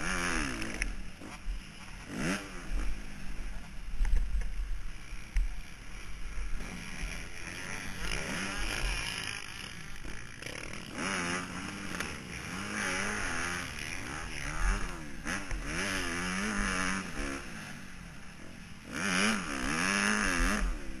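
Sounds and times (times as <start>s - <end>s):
motorbike engine revving: 0.0s - 3.7s, 4.9s - 21.0s.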